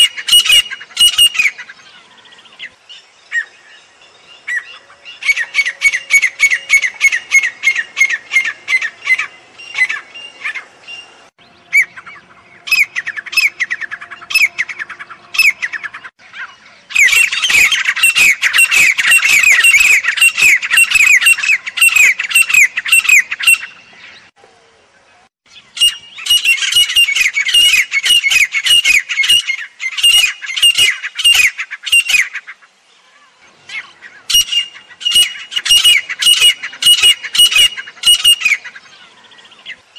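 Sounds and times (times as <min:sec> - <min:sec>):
francolins calling shrilly: 0:00.0 - 0:24.3, 0:25.5 - 0:39.9.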